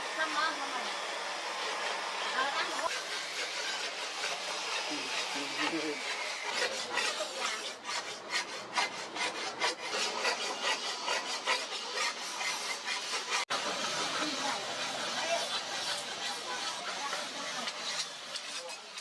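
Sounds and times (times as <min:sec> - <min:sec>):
rasp filing back and forth: 0:00.0 - 0:19.0.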